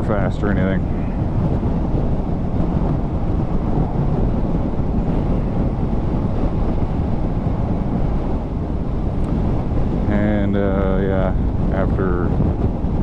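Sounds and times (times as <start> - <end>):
low rumble: 0.0 - 13.0
wind rushing on microphone: 0.0 - 13.0.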